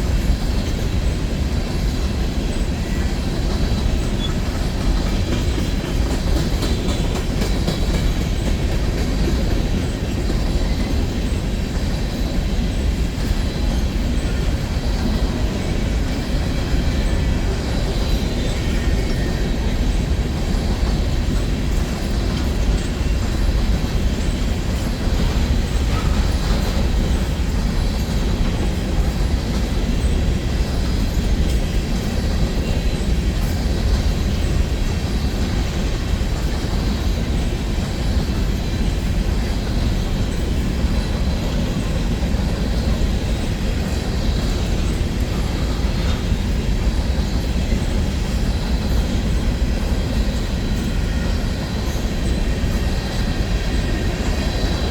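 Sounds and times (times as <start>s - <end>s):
train cars rolling past: 0.0s - 54.9s.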